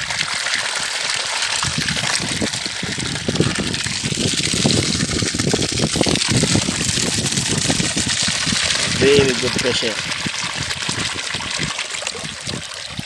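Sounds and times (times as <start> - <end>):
water gushing from pipe: 0.0 - 13.0
water splashing into buckets: 0.0 - 13.0.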